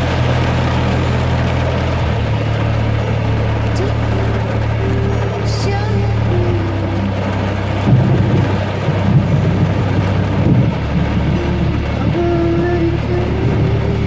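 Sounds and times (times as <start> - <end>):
rainstorm drone: 0.0 - 14.0
thunder rumbling: 0.0 - 14.0.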